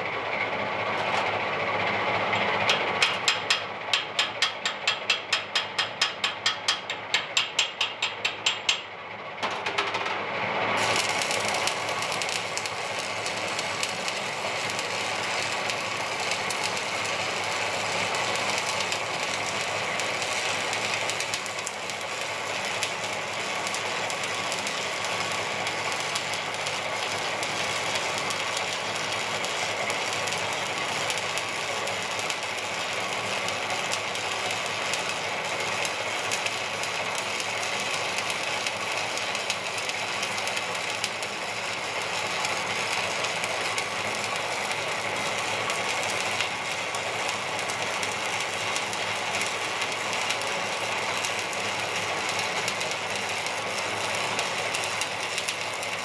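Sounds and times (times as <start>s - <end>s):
welding arc crackling: 2.4s - 8.9s, 10.8s - 56.0s.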